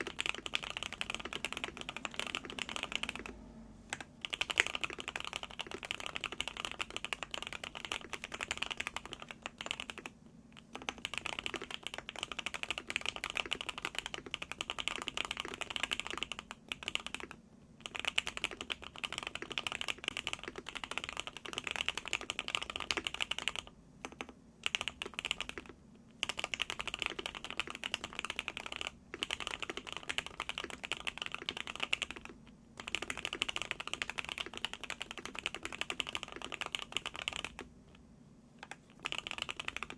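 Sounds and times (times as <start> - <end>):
typing on mechanical keyboard: 0.0 - 37.7, 38.6 - 39.9.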